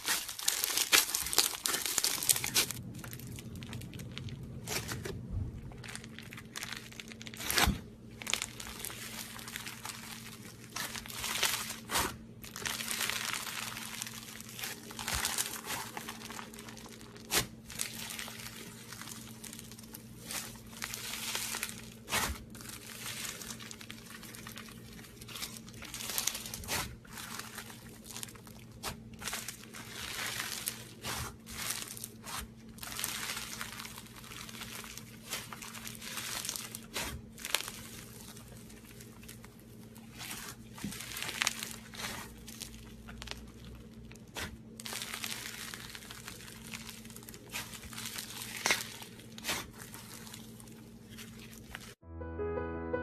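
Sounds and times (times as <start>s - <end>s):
crunchy slime crackling and popping: 0.0s - 52.0s.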